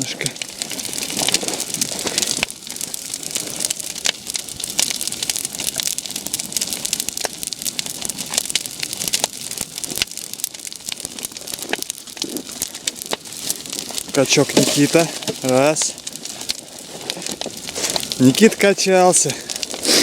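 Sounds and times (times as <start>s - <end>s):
bonfire crackling and popping: 0.0s - 20.0s
fire hiss: 0.0s - 20.0s.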